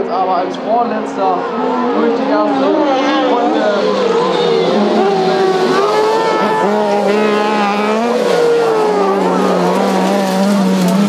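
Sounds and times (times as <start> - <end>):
kart engines revving: 0.0 - 11.0.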